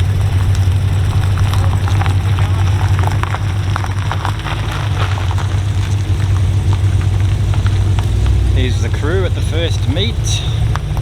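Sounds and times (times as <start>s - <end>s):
car engine rumbling: 0.0s - 11.0s
crackles and ticks: 0.0s - 11.0s.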